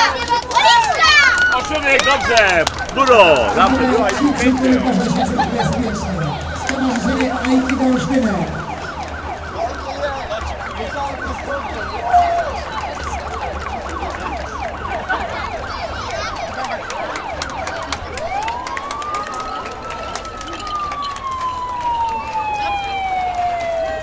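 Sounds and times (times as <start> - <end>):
emergency siren yelping: 1.5 - 24.0.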